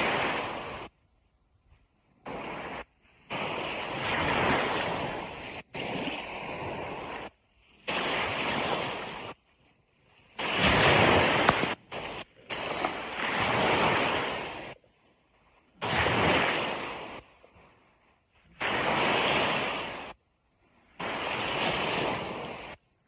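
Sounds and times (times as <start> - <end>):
ocean surf on beach: 0.0 - 23.0.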